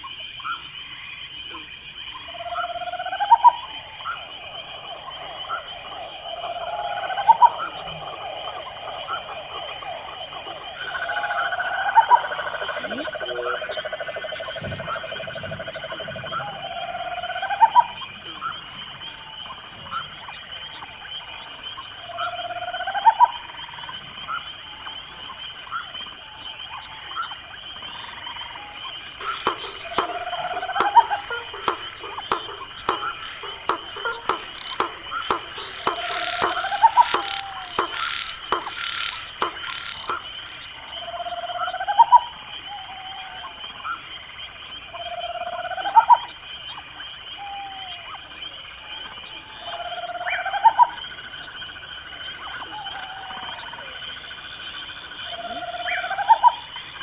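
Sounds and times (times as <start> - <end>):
crickets trilling: 0.0 - 57.0
frogs calling: 0.0 - 57.0.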